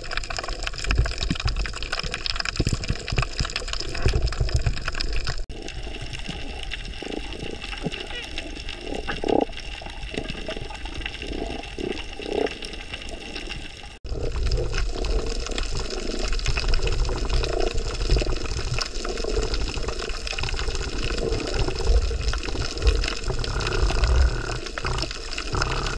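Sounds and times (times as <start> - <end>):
low underwater rumble: 0.0 - 25.9
underwater moving water: 0.0 - 25.9.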